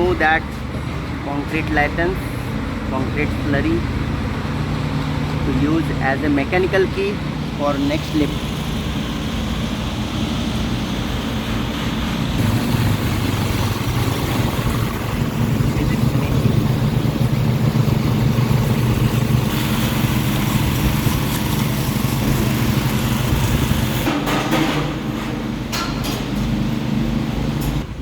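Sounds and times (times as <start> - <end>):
machine engine droning: 0.0 - 24.1.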